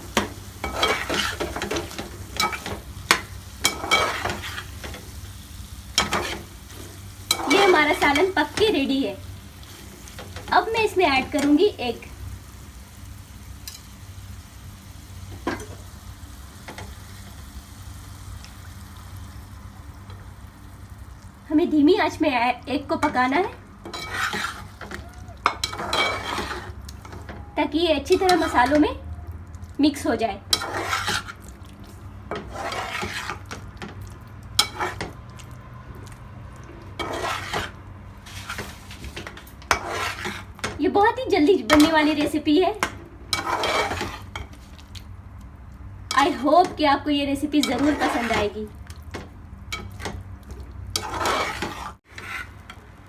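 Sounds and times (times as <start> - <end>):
food sizzling in a pan: 0.0 - 27.4, 30.4 - 35.3, 36.8 - 45.0, 46.1 - 52.8.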